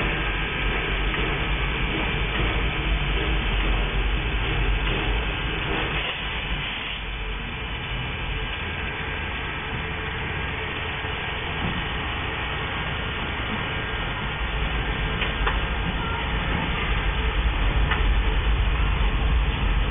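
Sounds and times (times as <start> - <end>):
railroad turntable rumbling: 0.0 - 19.9.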